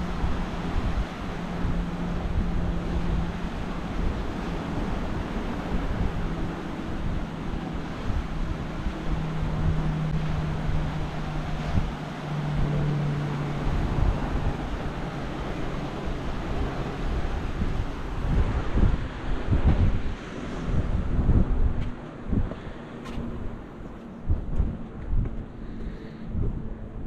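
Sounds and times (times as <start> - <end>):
ocean surf: 0.0 - 26.8
steady low hum: 0.0 - 27.0
wind buffeting microphone: 0.0 - 27.0.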